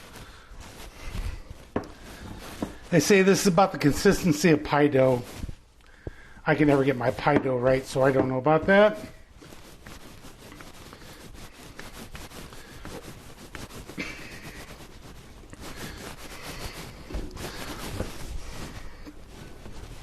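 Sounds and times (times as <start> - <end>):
hands kneading dough: 0.0 - 20.0.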